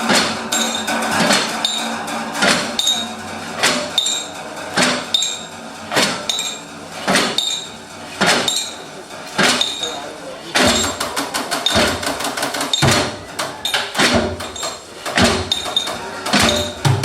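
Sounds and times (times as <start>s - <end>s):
hammer blows in a steady beat: 0.0s - 17.0s
ringing metallic taps: 0.0s - 17.0s.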